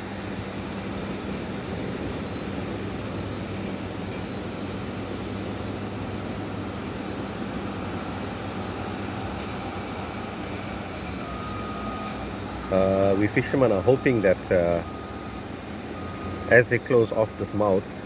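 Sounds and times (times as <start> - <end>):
heavy machinery diesel drone: 0.0 - 18.0.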